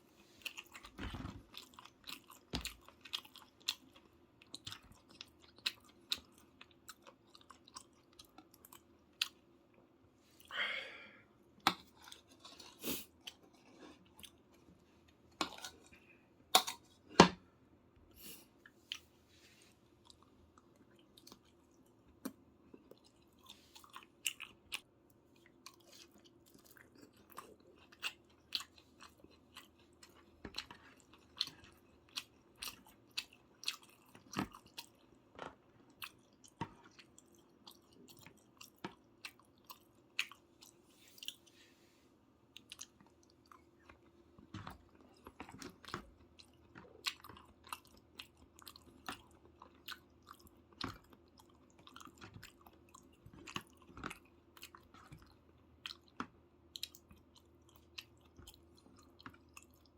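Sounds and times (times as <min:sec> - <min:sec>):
person chewing food: 0:00.0 - 0:10.6, 0:11.6 - 0:17.4, 0:18.2 - 0:41.8, 0:42.4 - 0:59.9.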